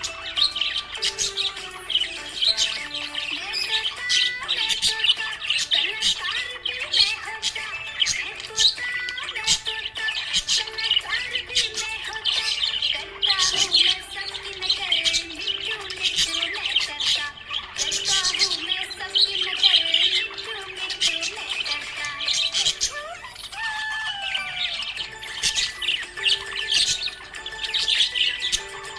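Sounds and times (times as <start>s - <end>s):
background music: 0.0s - 28.9s
budgies chirping and chattering: 0.0s - 28.9s.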